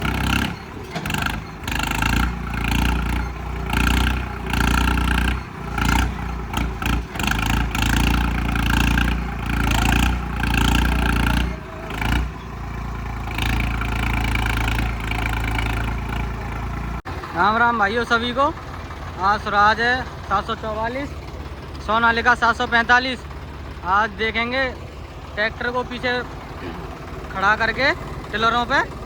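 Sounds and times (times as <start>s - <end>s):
tractor diesel engine revving: 0.0s - 29.0s.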